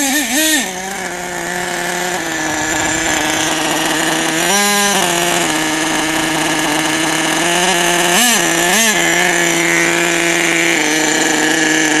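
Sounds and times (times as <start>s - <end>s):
engine throttle blips: 0.0s - 12.0s
small nitro engine running: 0.0s - 12.0s.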